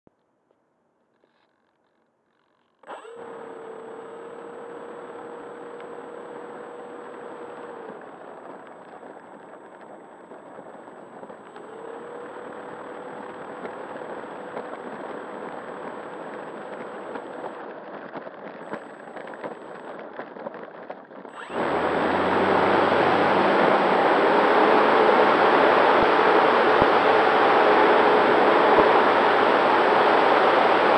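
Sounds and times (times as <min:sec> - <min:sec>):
electric motor whine: 0:02.7 - 0:30.9
propeller and airflow rush: 0:03.2 - 0:30.9.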